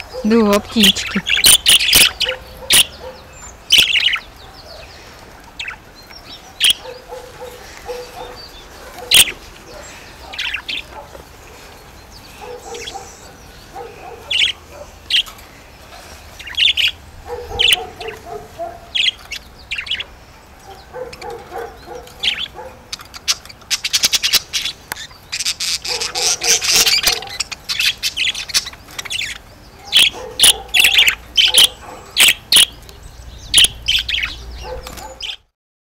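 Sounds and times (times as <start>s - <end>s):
low budgerigar warbling: 0.0s - 5.0s, 5.6s - 11.1s, 12.1s - 15.3s, 16.4s - 35.5s
budgerigars chirping: 0.0s - 35.5s.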